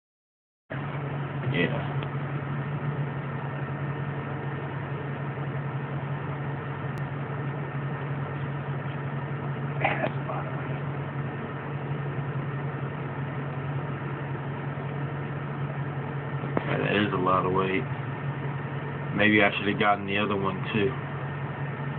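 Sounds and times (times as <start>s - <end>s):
vehicle engine idling: 0.7s - 21.9s.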